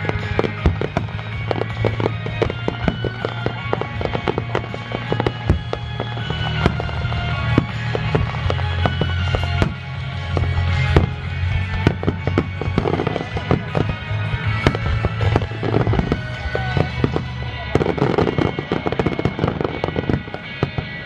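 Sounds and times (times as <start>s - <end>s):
fireworks bangs and crackles: 0.0s - 21.0s
music with heavy bass: 0.0s - 21.0s.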